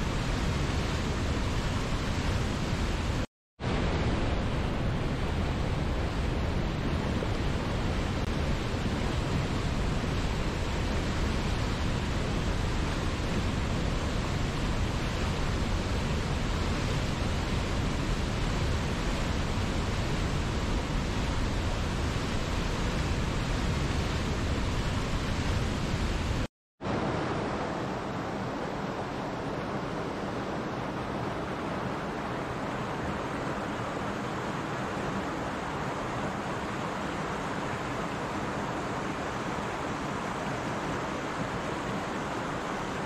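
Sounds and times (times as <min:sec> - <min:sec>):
water rushing over rocks: 0:00.0 - 0:43.0.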